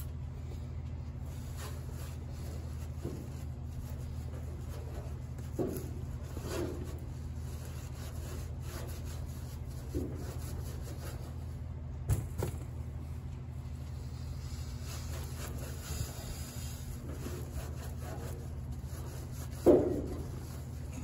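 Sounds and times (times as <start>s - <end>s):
hand rubbing on metal: 0.5s - 11.6s, 14.0s - 21.0s.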